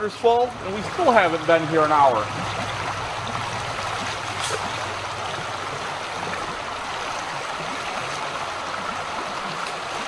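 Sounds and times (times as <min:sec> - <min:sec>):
creek running over rocks: 0:00.0 - 0:10.0.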